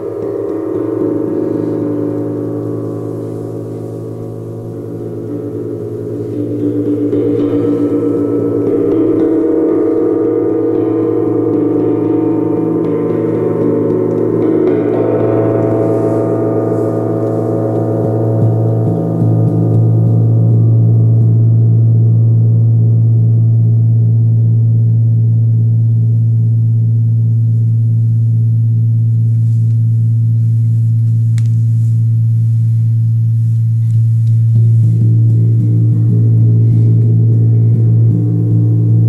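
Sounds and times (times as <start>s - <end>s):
moon gong hum with shimmering overtones: 0.0s - 39.0s.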